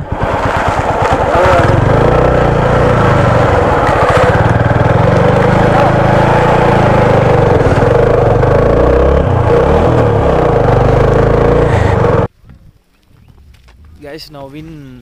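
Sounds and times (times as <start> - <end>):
motorcycle engine running: 0.0 - 12.3.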